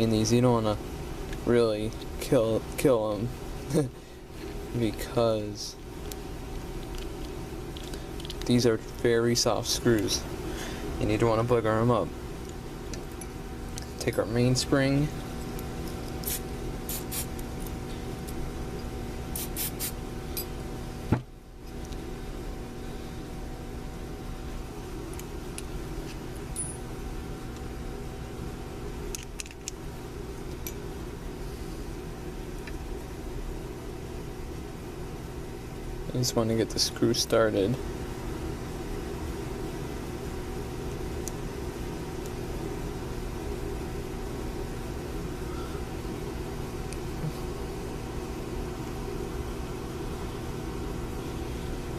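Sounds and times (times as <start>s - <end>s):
air conditioning unit hum: 0.0s - 51.9s.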